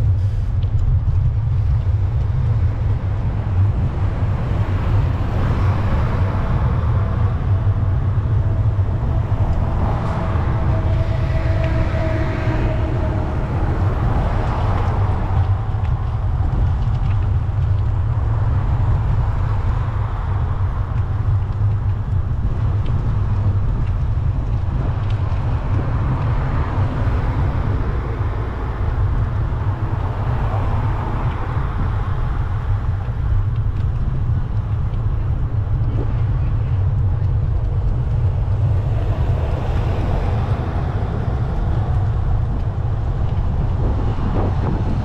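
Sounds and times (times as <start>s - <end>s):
road traffic: 0.0s - 45.0s
wind on microphone: 0.0s - 45.0s.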